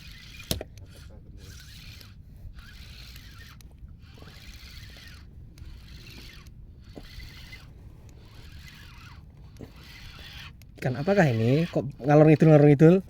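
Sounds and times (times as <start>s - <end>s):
fishing reel whirring: 0.0s - 13.0s
low steady rumble: 0.0s - 13.0s.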